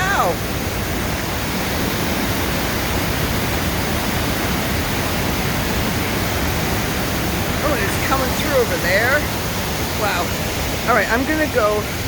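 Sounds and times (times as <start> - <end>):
water rushing over waterfall: 0.0 - 12.0.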